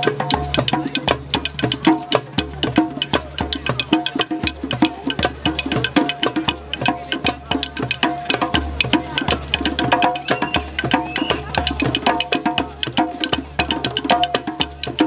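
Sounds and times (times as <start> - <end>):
percussive music with drum: 0.0 - 15.0.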